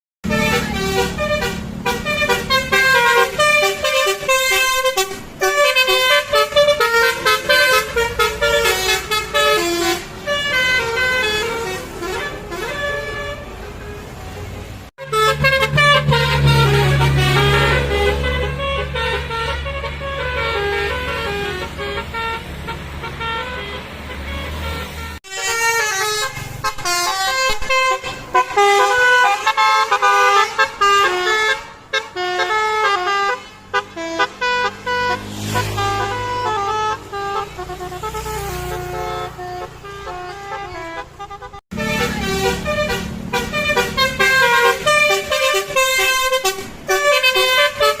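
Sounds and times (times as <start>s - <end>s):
multi-tone bus horn tune: 0.2s - 48.0s.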